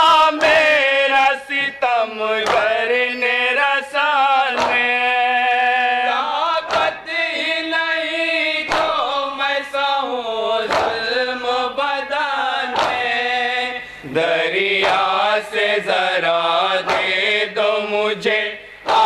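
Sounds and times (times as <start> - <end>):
men singing in unison: 0.0 - 19.0.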